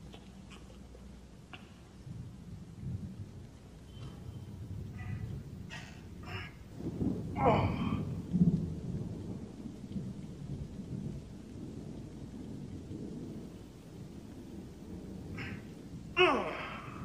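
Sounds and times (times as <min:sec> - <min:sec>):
rain: 0:00.0 - 0:17.0
thunder rumbling: 0:00.0 - 0:17.0.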